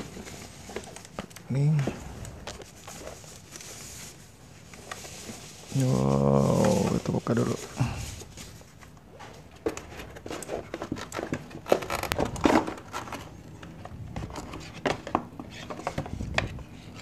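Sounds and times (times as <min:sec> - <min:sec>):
cardboard rustling: 0:00.0 - 0:17.0.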